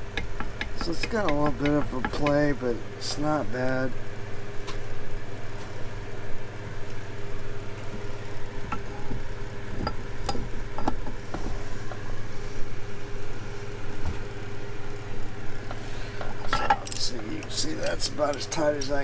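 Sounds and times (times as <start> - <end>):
low shop hum: 0.0 - 19.0.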